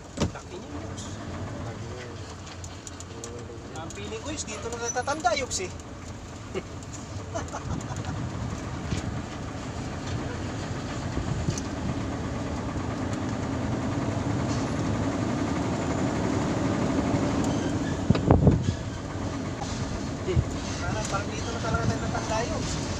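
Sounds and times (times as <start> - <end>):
road noise: 0.0 - 22.9
truck engine rumble: 0.0 - 22.9.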